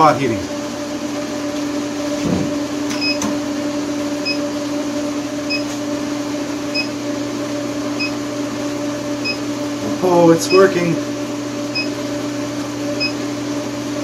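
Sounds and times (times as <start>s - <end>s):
cooling fan: 0.0s - 14.0s
water cooler pump hum: 0.0s - 14.0s.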